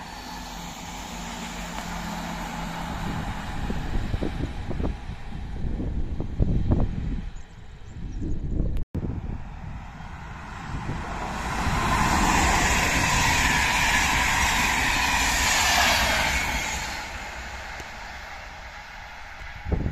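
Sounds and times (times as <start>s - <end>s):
train wheels rushing on rails: 0.0s - 7.8s, 9.0s - 19.9s.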